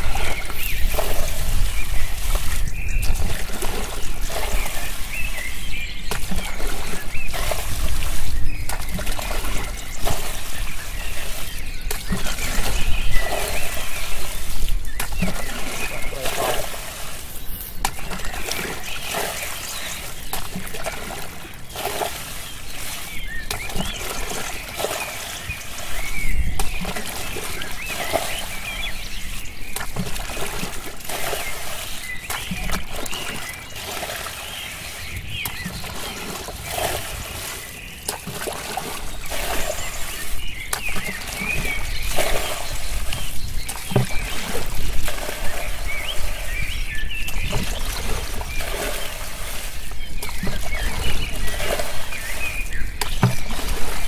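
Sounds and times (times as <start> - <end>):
bucket scooping water: 0.0 - 54.0
muddy water splashing: 0.0 - 54.0.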